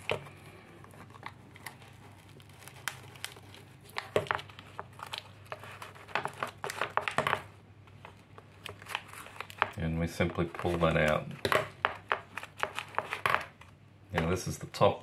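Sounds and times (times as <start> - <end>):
plastic crinkling and crackling: 0.0 - 14.5.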